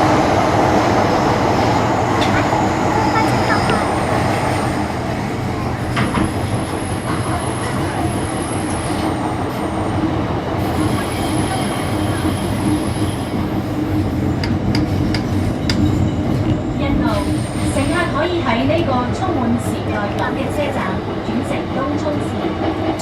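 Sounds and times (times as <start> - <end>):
train rumble inside car: 0.0 - 23.0.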